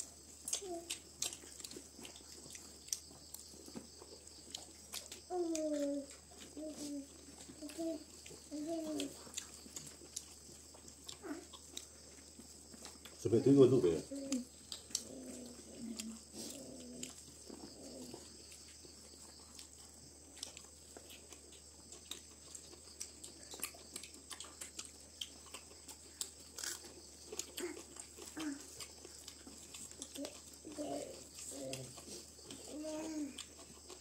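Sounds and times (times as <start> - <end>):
chewing and lip smacks: 0.0 - 34.0.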